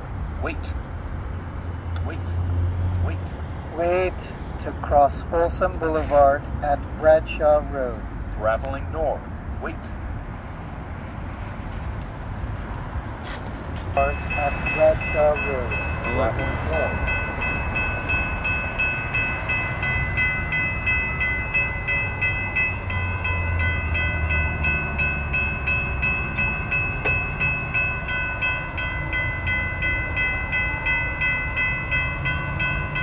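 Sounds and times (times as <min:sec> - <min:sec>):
railroad crossing bells ringing: 0:00.0 - 0:09.8, 0:13.2 - 0:33.0.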